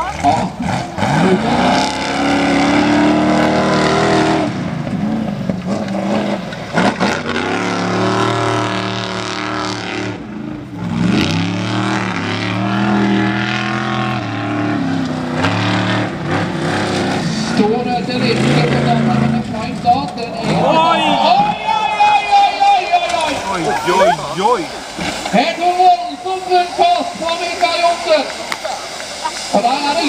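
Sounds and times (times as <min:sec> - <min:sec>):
buggy engine revving: 0:00.0 - 0:30.0.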